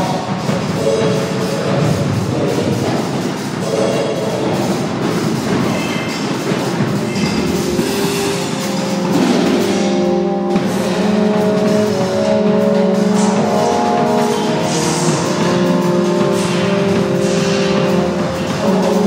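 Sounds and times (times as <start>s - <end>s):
drum and cymbal sounds: 0.0s - 19.0s
experimental drone noise music: 0.0s - 19.0s.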